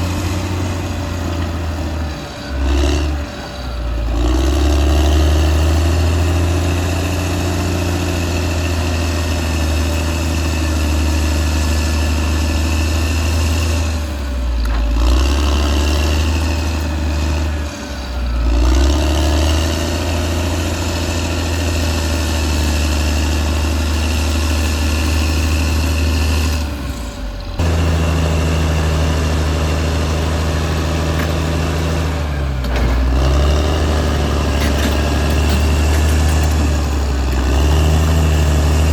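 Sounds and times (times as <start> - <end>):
bulldozer diesel engine droning: 0.0 - 38.9
engine high whine: 0.0 - 38.9.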